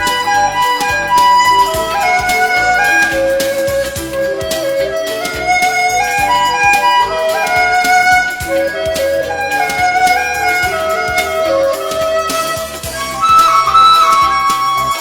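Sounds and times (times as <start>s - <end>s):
instrumental music with beat: 0.0s - 15.0s.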